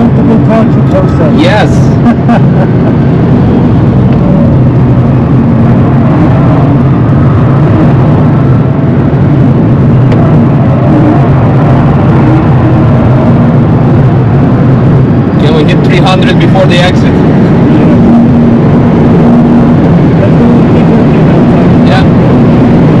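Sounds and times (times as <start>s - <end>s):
road and wind noise in car: 0.0s - 23.0s.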